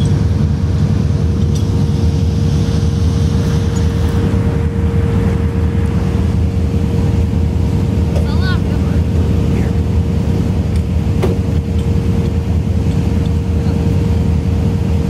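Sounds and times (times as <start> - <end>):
deep machinery hum: 0.0 - 15.0
steady higher tone: 0.0 - 15.0.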